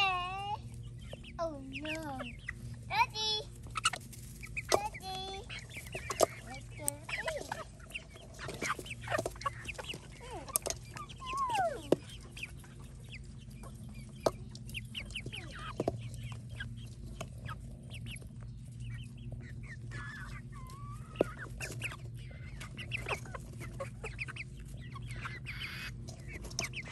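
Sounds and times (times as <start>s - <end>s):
hens clucking: 0.0s - 26.9s
beaks pecking a metal bowl: 0.9s - 26.9s.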